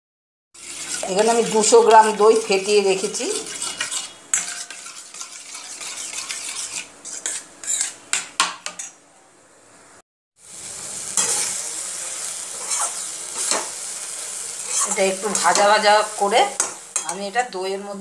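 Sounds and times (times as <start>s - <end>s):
food sizzling in a pan: 0.6s - 9.0s, 10.4s - 18.0s.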